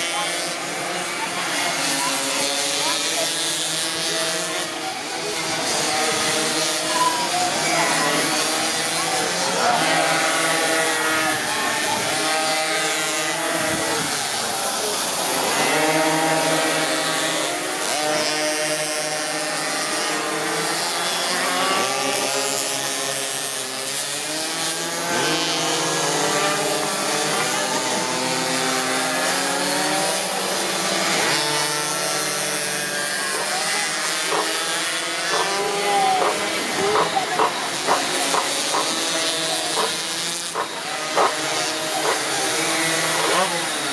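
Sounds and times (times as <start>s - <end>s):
minibike engines buzzing: 0.0s - 43.9s.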